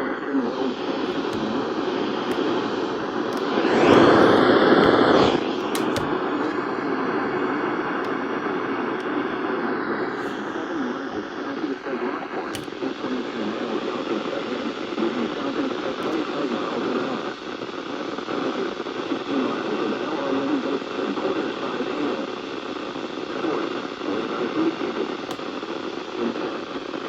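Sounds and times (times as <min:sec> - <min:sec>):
radio static and hiss: 0:00.0 - 0:27.0.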